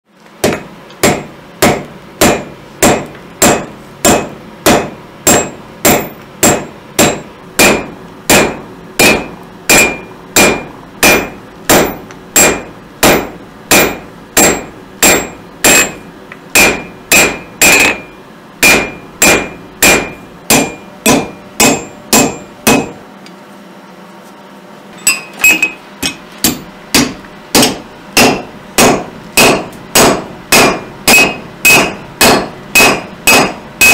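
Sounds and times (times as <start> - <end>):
hammer striking iron on anvil: 0.4 - 23.0, 25.0 - 33.9.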